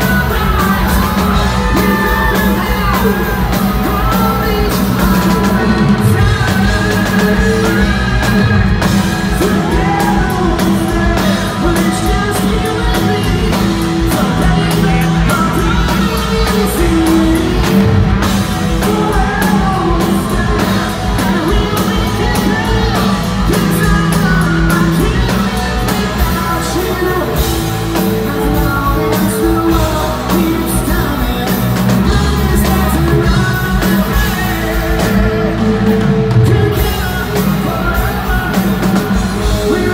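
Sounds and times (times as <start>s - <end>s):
live rock band playing: 0.0s - 39.9s
male singer: 0.0s - 39.9s.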